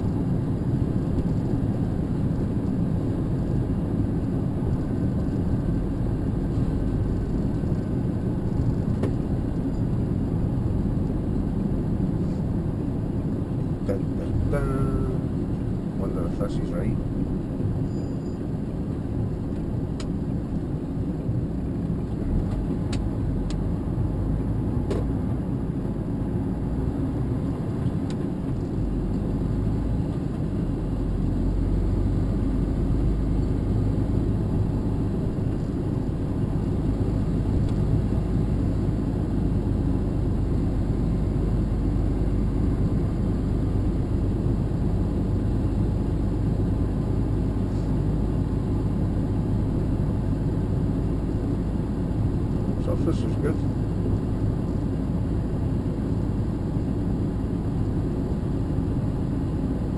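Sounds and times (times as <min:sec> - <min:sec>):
engine and road rumble: 0:00.0 - 0:59.9.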